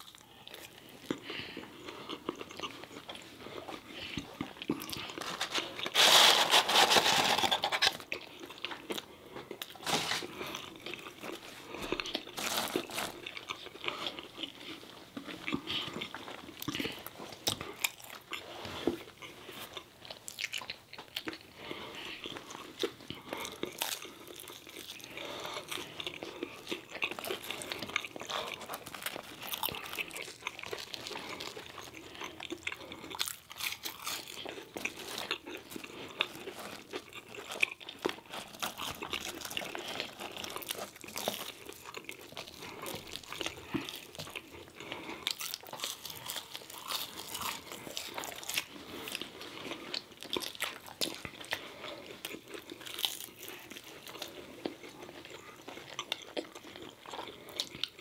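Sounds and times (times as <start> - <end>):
people chewing crunchy food: 0.0 - 58.0.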